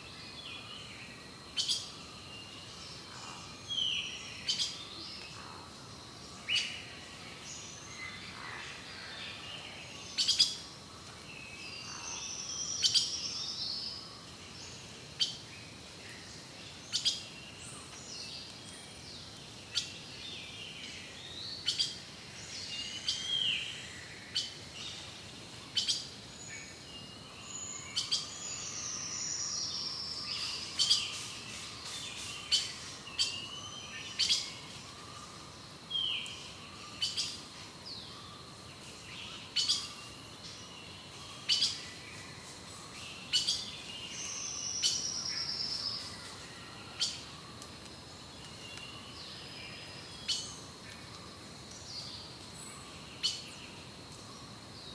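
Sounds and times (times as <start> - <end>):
steady high insect-like tone: 0.0 - 54.9.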